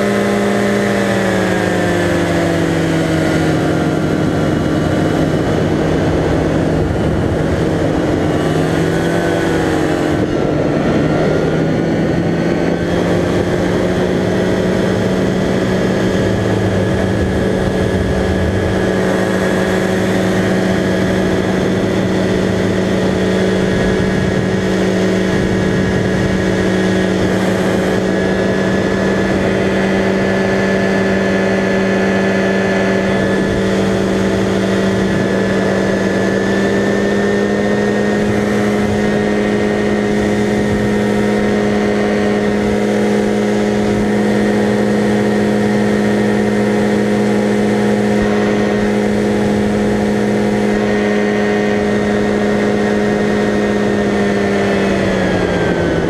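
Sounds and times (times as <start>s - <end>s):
paraglider engine and propeller: 0.0s - 56.0s.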